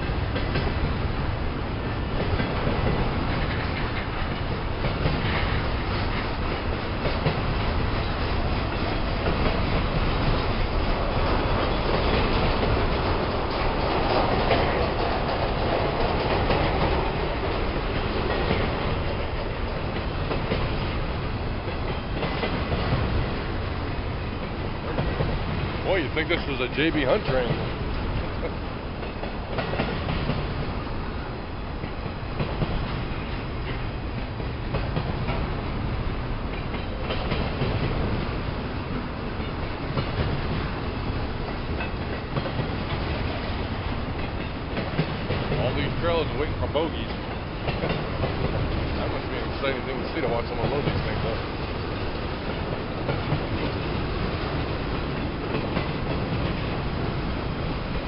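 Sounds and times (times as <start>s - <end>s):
train wheels rumbling on rail: 0.0s - 58.0s
wheels clicking over rail joints: 0.0s - 58.0s.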